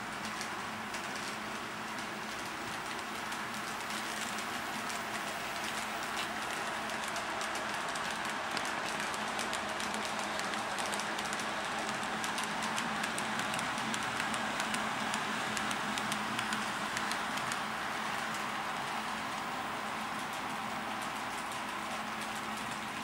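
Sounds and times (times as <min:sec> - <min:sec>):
wheels clicking on track: 0:00.0 - 0:23.0.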